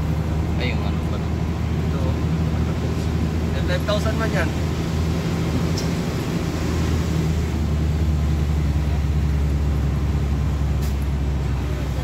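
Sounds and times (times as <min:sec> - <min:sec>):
tyre and road rumble: 0:00.0 - 0:12.0
vehicle engine drone: 0:00.0 - 0:12.0.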